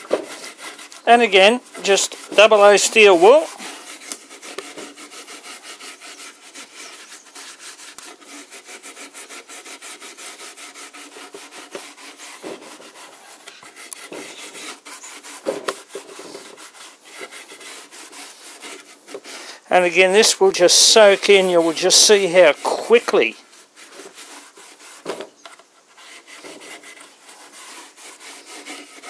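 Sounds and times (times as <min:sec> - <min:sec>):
steel wool scrubbing wood: 0:00.0 - 0:29.0.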